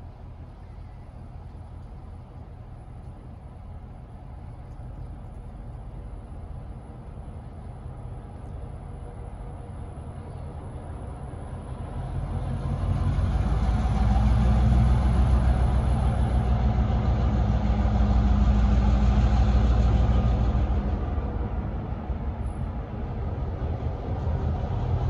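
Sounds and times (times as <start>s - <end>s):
diesel locomotive engines droning: 0.0s - 25.0s.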